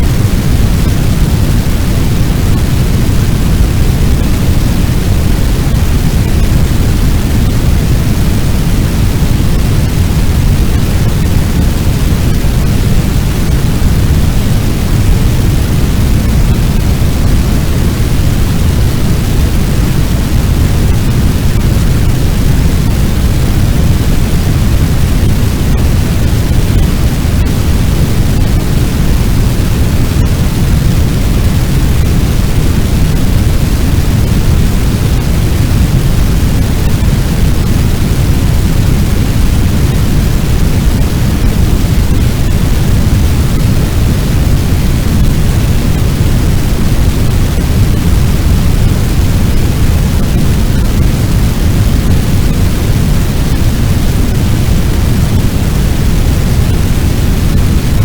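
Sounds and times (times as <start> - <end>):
roaring flames: 0.2 - 57.9.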